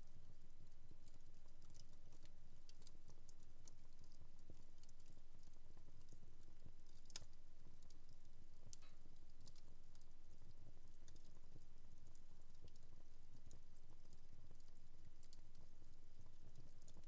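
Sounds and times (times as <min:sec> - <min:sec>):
wood fire crackling: 0:00.4 - 0:17.0.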